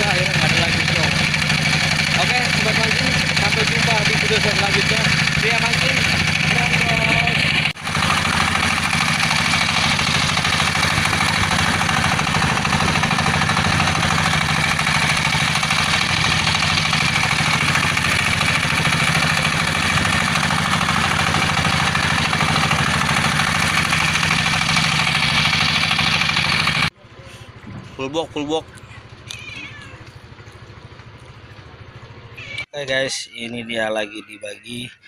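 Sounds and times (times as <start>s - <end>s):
boat engine droning: 0.0s - 32.6s.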